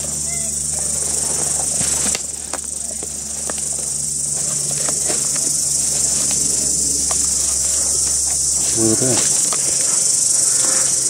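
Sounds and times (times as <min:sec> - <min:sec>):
insects chorus: 0:00.0 - 0:11.0
footsteps through dry undergrowth: 0:01.7 - 0:10.7.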